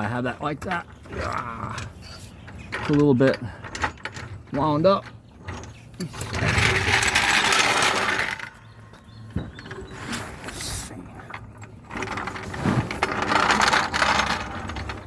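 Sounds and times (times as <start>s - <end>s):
transmission jack rattling: 0.0s - 10.6s, 11.2s - 15.0s.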